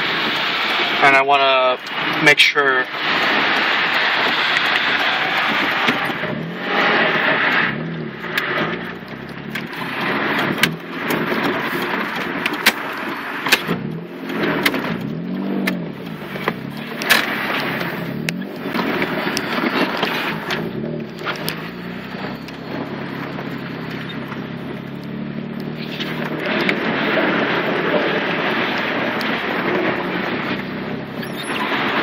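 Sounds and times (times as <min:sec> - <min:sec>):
car engine revving: 0:00.0 - 0:32.0
road noise: 0:00.0 - 0:32.0.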